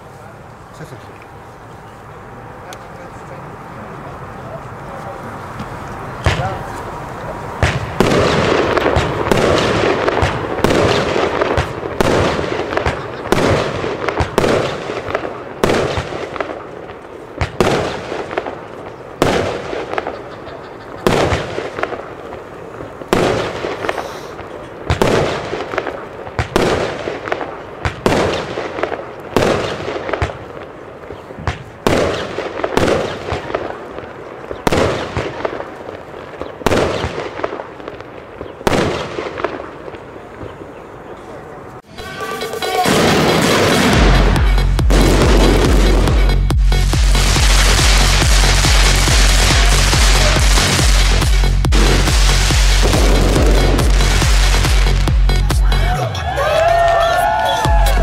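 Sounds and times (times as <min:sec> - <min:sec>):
firework bangs: 0:05.5 - 0:41.0, 0:41.8 - 0:58.0.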